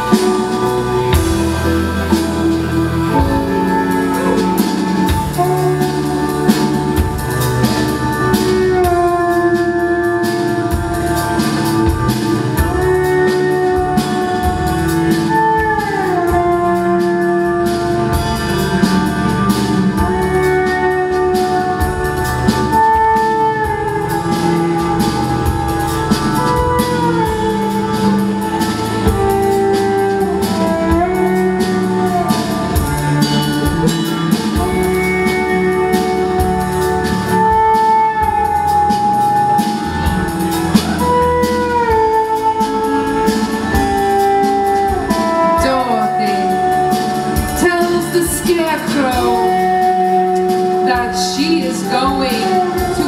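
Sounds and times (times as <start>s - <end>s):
live band playing slow melody: 0.0s - 53.0s.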